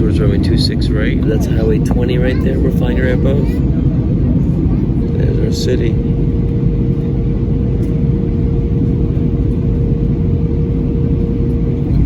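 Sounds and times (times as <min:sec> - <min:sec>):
airplane engine and airflow rumble: 0:00.0 - 0:12.0
mid-pitched hum: 0:00.0 - 0:12.0.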